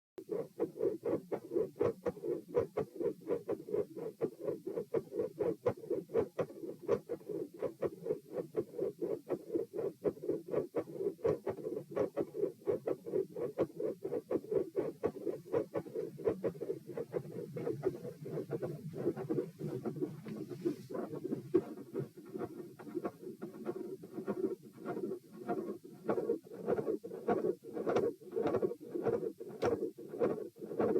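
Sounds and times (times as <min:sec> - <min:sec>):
heartbeat through stethoscope: 0:00.2 - 0:30.9.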